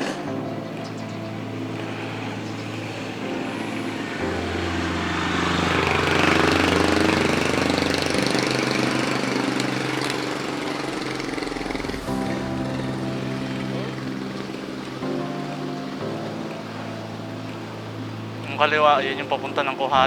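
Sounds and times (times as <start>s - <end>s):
vehicle engine passing by: 0.0s - 18.7s
background music: 0.0s - 20.0s.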